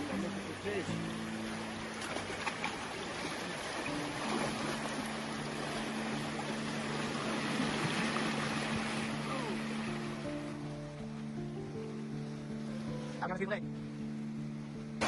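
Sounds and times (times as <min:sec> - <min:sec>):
river water rushing: 0:00.0 - 0:15.0
soft music of low notes: 0:00.0 - 0:15.0.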